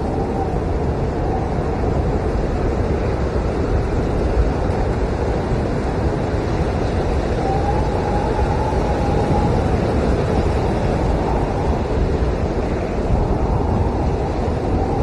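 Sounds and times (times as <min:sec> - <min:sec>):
faint wind whistle: 0:00.0 - 0:03.8, 0:04.6 - 0:15.0
blizzard wind howling: 0:00.0 - 0:15.0.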